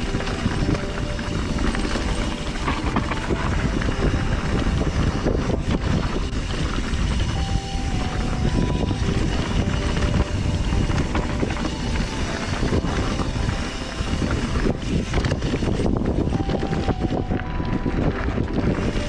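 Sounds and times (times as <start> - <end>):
bike knocks and rattles: 0.0 - 7.4, 8.0 - 16.7
bike tyres on dirt: 0.0 - 19.0
wind on microphone: 0.0 - 19.0.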